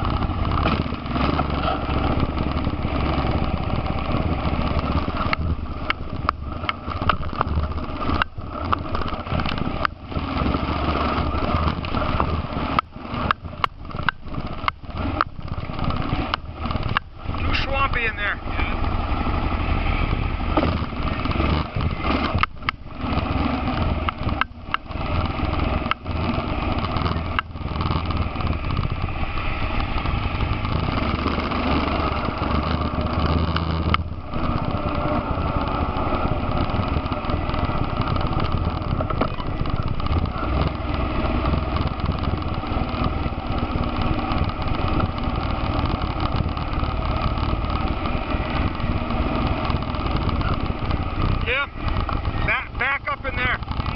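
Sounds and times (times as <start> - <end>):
atv engine running: 0.0 - 53.9.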